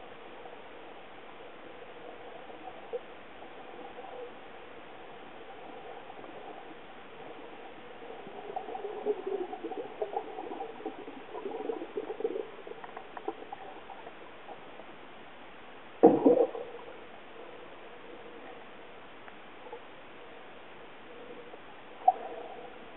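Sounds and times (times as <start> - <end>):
faint underwater hum: 0.0 - 22.9.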